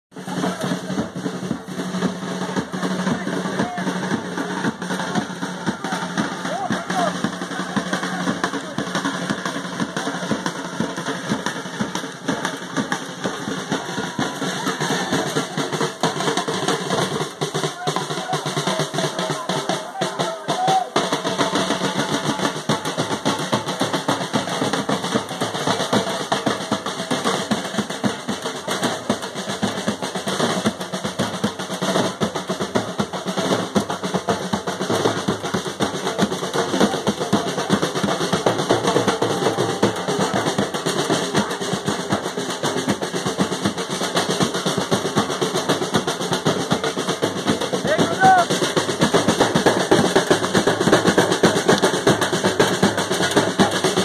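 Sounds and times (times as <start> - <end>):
drum band playing: 0.1 - 54.0.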